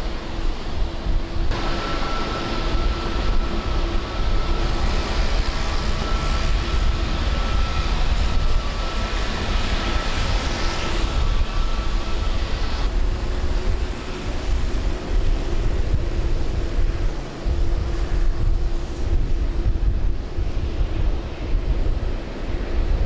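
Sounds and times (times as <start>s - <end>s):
aircraft engines whining: 0.0s - 23.0s
wind rumble on microphone: 0.0s - 23.0s.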